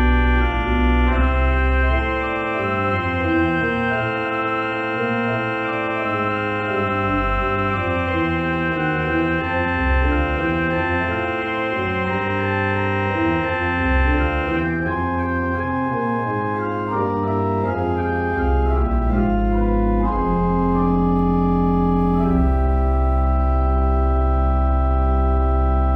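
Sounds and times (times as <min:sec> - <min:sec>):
church organ chords: 0:00.0 - 0:25.9
low organ pedal notes: 0:00.0 - 0:25.9.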